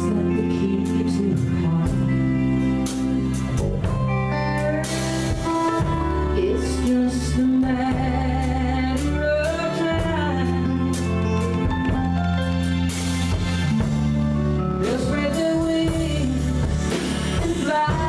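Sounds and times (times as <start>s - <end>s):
bass: 0.0s - 18.0s
drums: 0.0s - 18.0s
guitar lead with bending notes: 0.0s - 18.0s.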